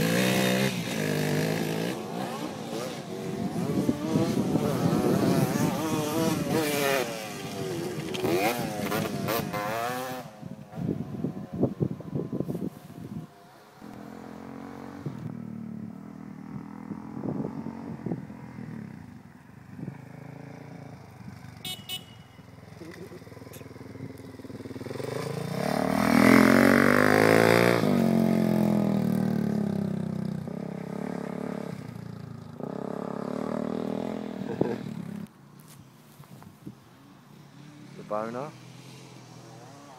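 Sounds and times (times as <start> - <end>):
dirt bike engine in distance: 0.0 - 35.3
dirt bike passing under hard throttle: 0.0 - 35.3.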